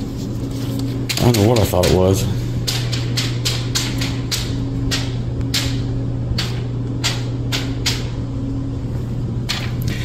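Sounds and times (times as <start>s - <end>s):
low indoor hum: 0.0s - 10.0s.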